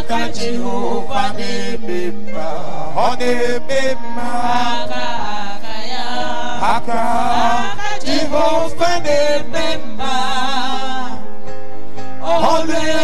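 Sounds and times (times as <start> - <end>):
musical backing: 0.0 - 13.0.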